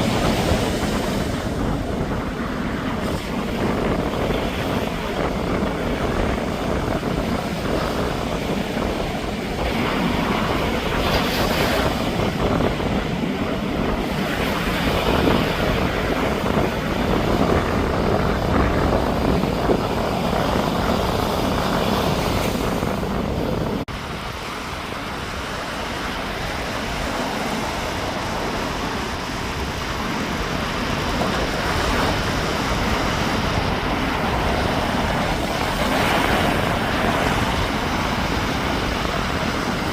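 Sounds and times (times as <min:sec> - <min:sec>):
sea waves washing onto beach: 0:00.0 - 0:39.9
wind rumbling on microphone: 0:00.0 - 0:39.9.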